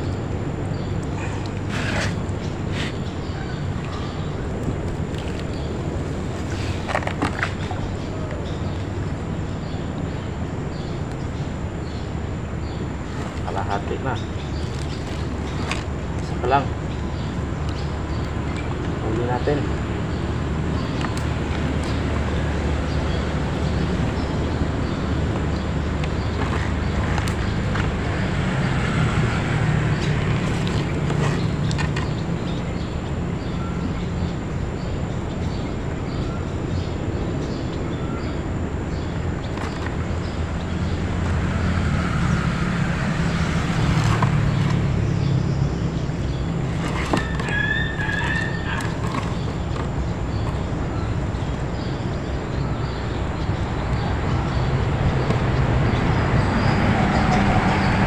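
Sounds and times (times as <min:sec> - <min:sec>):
low engine hum: 0:00.0 - 0:58.0
outdoor background noise: 0:00.0 - 0:58.0.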